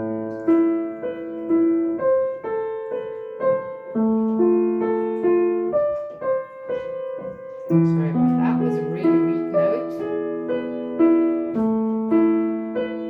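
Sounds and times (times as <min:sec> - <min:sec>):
slow piano broken chords: 0:00.0 - 0:13.0.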